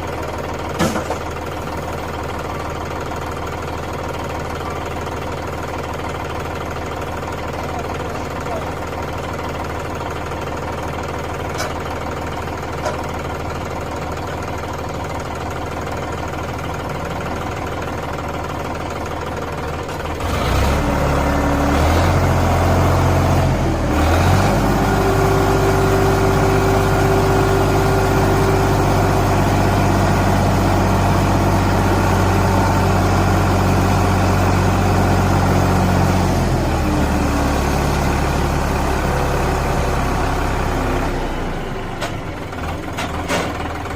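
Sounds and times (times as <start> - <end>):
tractor diesel engine idling: 0.0 - 43.9.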